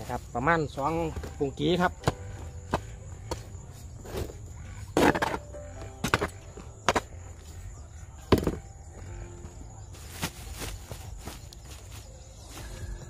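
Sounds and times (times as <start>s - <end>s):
scrapes and dull thumps: 0.0s - 11.9s.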